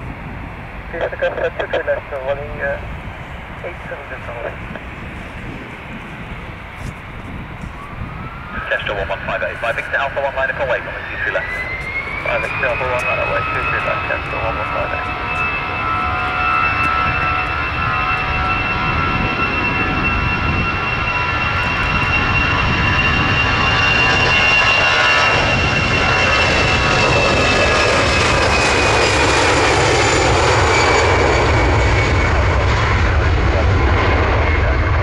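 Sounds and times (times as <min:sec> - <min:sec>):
jet engine whine and roar: 0:00.0 - 0:35.0.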